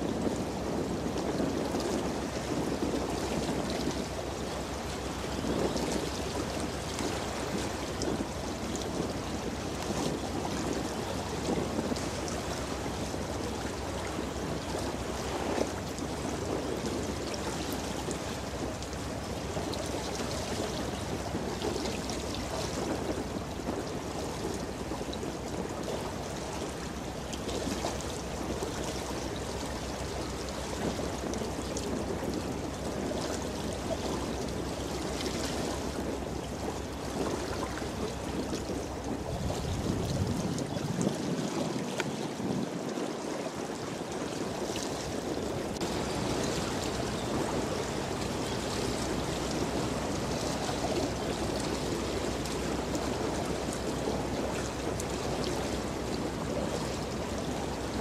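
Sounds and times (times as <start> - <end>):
rushing churning water: 0.0 - 58.0.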